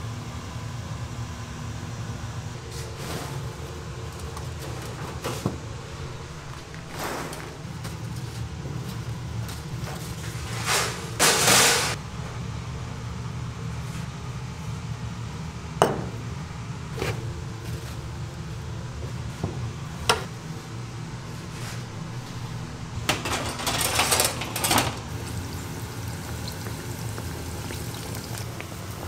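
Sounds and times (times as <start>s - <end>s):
low hum of kitchen machinery: 0.0s - 29.0s.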